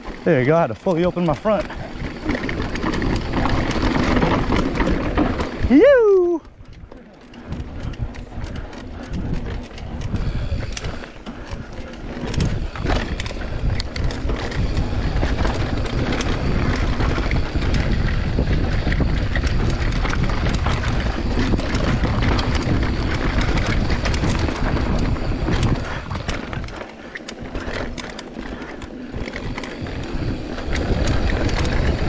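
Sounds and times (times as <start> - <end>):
bike clattering over bumps: 0.0 - 32.0
tyres rolling over dirt: 0.0 - 32.0
wind buffeting microphone: 0.0 - 32.0.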